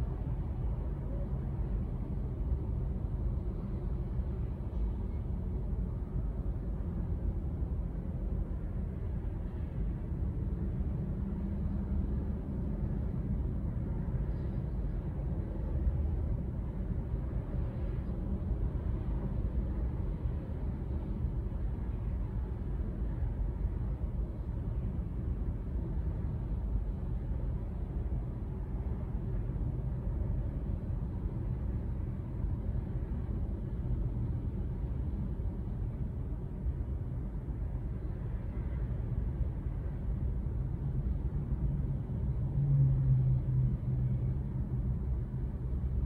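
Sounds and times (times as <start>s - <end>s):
low engine hum: 0.0s - 46.0s
traffic rumble inside a car: 0.0s - 46.0s.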